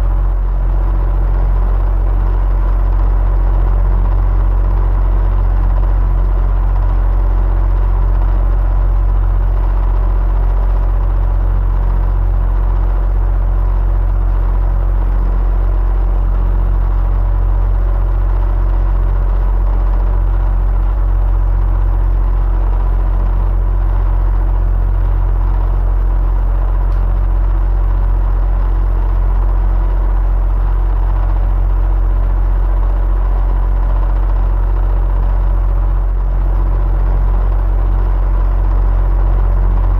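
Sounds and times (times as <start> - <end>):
electric fan humming: 0.0 - 39.9.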